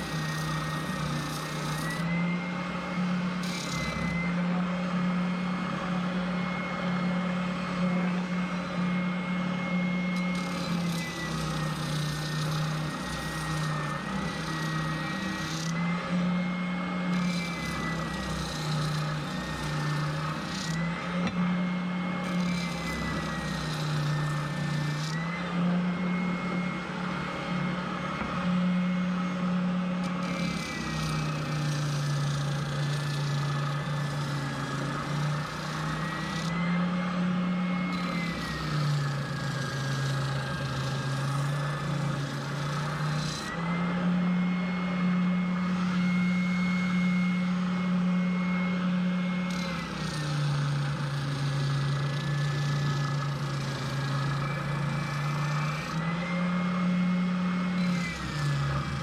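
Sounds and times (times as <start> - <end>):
electric sander on metal: 0.0 - 59.0.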